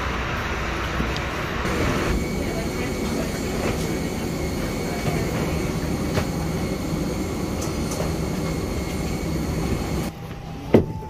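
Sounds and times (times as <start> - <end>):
airliner machinery drone: 0.0 - 11.0
thin high whine: 0.0 - 11.0.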